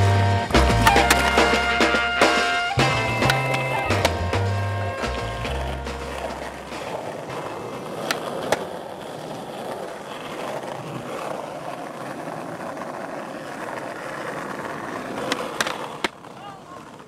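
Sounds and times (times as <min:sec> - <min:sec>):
skateboard clacks: 0:00.0 - 0:17.0
skateboard wheels rolling on stone: 0:00.0 - 0:17.0.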